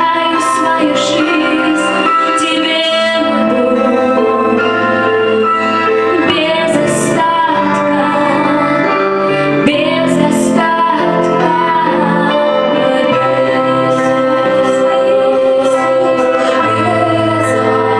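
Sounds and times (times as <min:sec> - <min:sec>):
instrumental accompaniment: 0:00.0 - 0:17.9
woman singing a slow song: 0:00.0 - 0:17.9.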